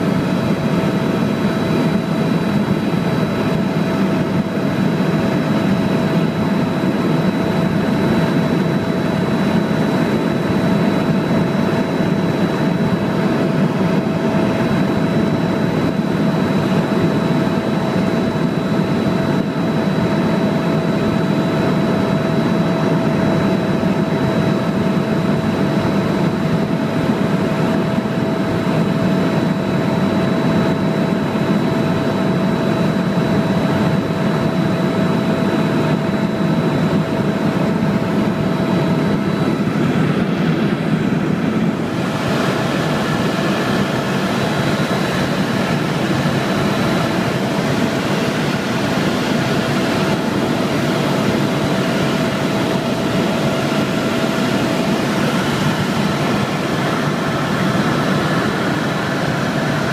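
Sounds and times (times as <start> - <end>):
constant whine: 0.0 - 59.9
helicopter cabin drone: 0.0 - 59.9.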